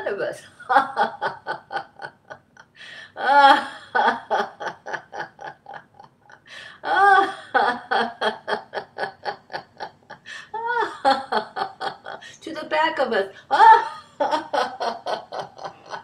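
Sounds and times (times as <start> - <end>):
woman laughing: 0.0 - 12.4, 13.5 - 16.0.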